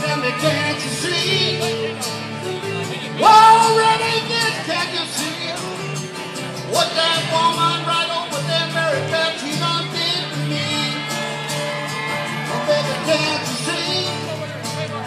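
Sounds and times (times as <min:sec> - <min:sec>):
man singing: 0:00.0 - 0:11.4, 0:12.3 - 0:15.0
country song over pa: 0:00.0 - 0:15.0
guitars: 0:00.0 - 0:15.0.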